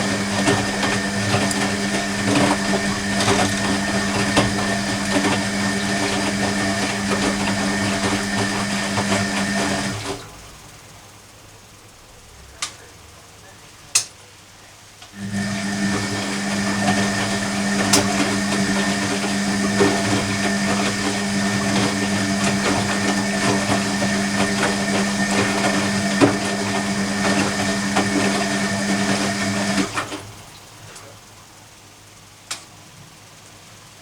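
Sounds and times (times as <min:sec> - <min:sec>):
washing machine motor hum: 0:00.0 - 0:11.0, 0:15.1 - 0:31.4.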